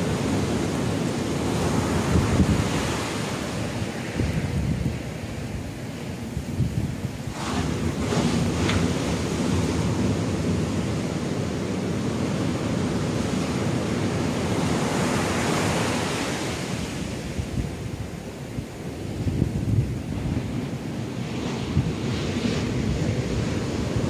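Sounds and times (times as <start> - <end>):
ocean surf breaking: 0.0 - 24.0
wind buffeting microphone: 0.0 - 24.0.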